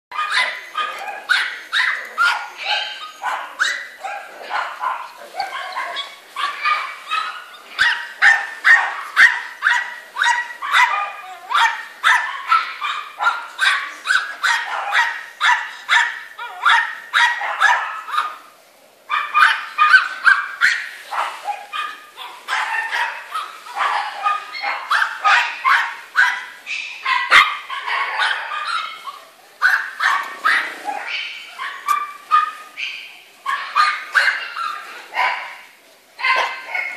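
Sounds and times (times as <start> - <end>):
small dogs yapping: 0.1 - 18.4, 19.1 - 36.9.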